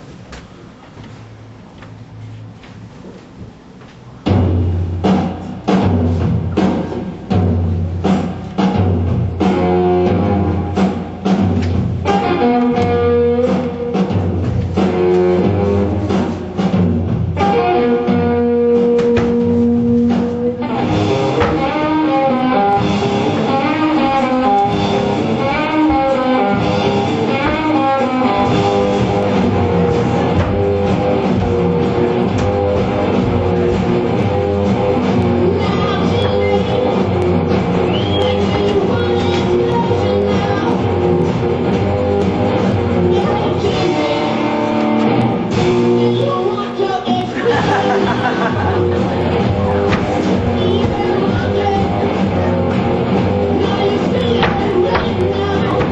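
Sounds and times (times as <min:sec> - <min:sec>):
rock band playing: 0:04.3 - 0:55.9
bending lead guitar line: 0:09.4 - 0:55.9.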